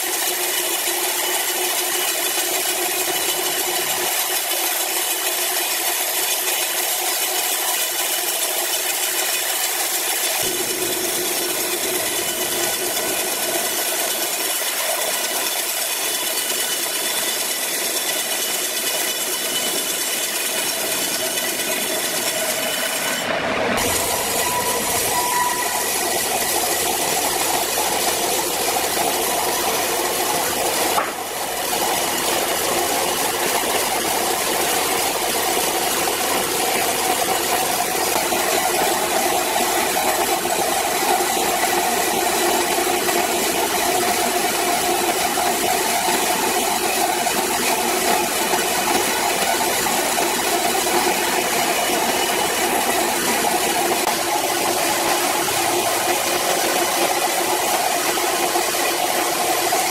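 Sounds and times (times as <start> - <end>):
sawmill machine whine: 0.0 - 59.9.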